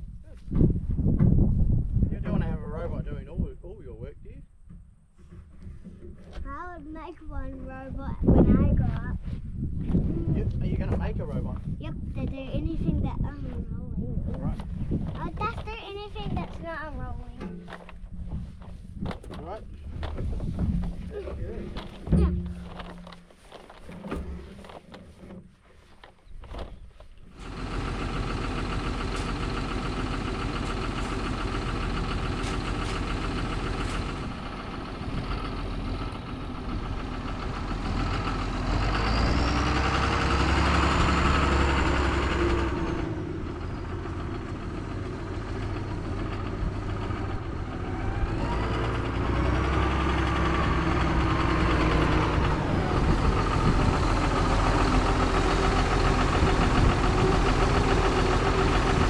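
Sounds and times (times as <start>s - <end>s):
tractor engine running: 4.5s - 59.0s.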